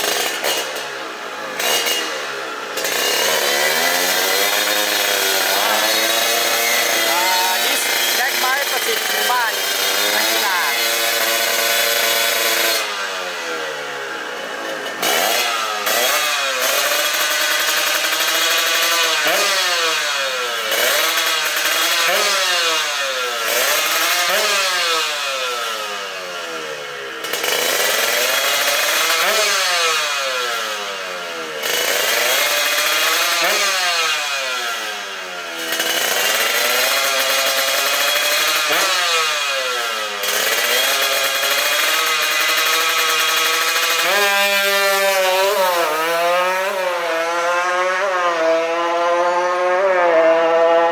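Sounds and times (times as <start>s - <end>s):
two-stroke motorcycle engine revving: 0.0s - 50.9s.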